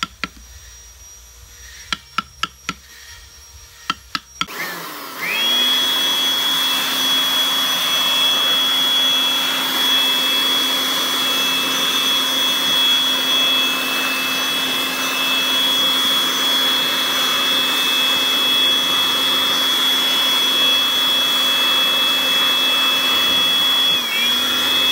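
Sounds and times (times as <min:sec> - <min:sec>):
electric blower running: 0:00.0 - 0:24.9.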